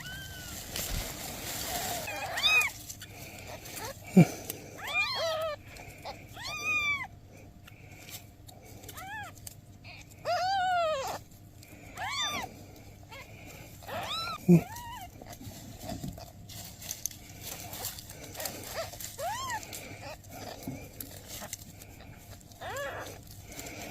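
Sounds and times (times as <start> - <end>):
kittens meowing: 0.0 - 16.4, 17.3 - 23.9.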